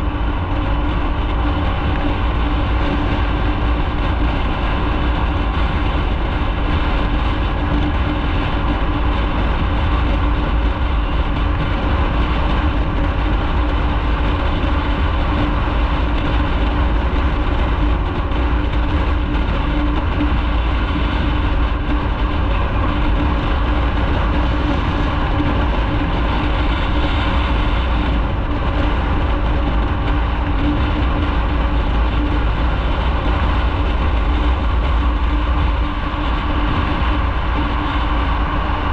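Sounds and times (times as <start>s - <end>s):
motorcycle engine drone: 0.0s - 38.9s
wind and road noise: 0.0s - 38.9s.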